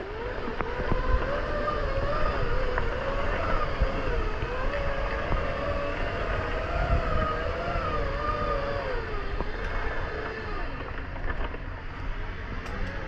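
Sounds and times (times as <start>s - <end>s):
motor whine: 0.0s - 13.0s.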